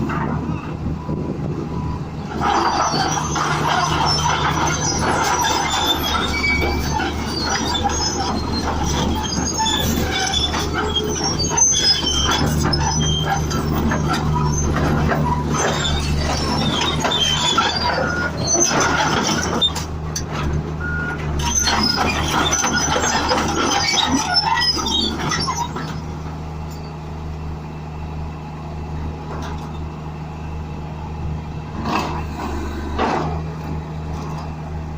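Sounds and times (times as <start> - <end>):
crawler tracks squeaking: 0.0 - 27.2, 31.6 - 34.9
bulldozer engine hum: 0.0 - 34.9.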